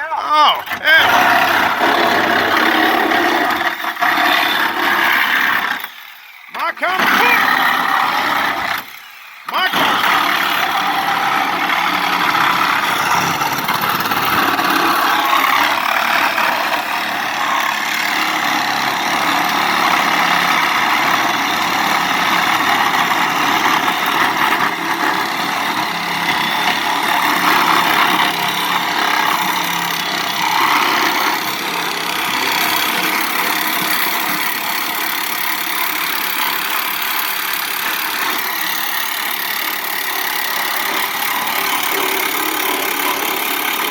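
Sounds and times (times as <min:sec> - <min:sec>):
backhoe engine running: 0:00.0 - 0:43.9.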